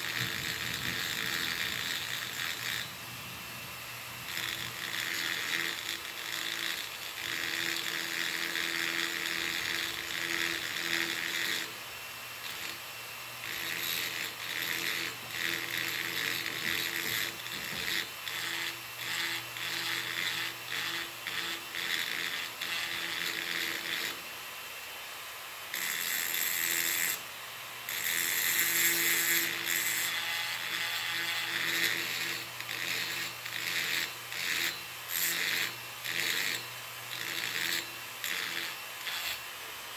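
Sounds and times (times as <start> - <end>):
rotary tool grinding metal: 0.0 - 24.4, 25.6 - 39.8
rotary tool motor running: 0.0 - 24.4, 25.7 - 39.6.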